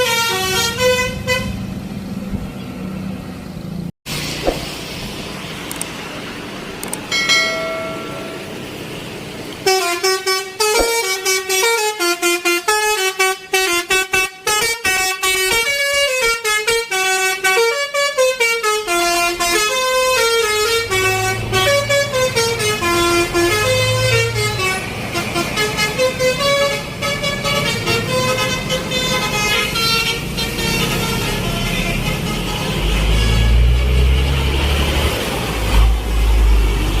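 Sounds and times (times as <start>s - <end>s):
multi-tone bus horn melody: 0.0s - 1.8s, 7.6s - 36.6s.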